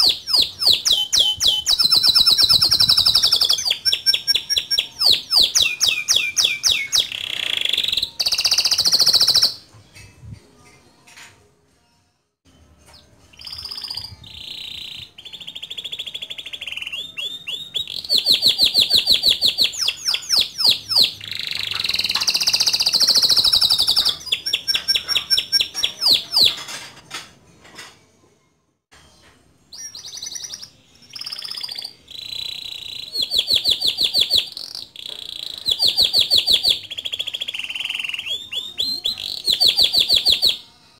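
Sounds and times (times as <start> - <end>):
canary singing trills: 0.0 - 10.1, 12.9 - 26.7, 29.7 - 40.8.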